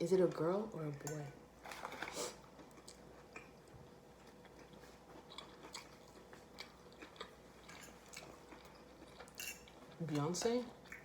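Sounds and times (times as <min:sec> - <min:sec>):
faint chewing: 0:01.7 - 0:11.0.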